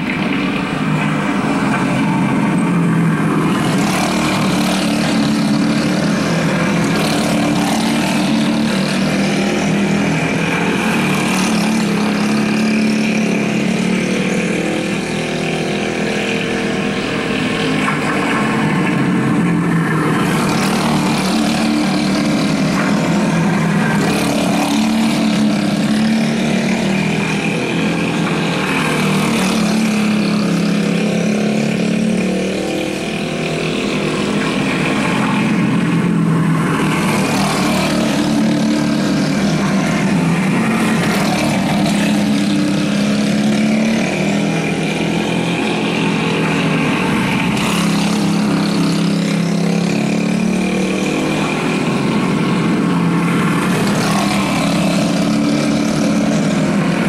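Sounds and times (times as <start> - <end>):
go-kart engines racing: 0.0 - 57.0.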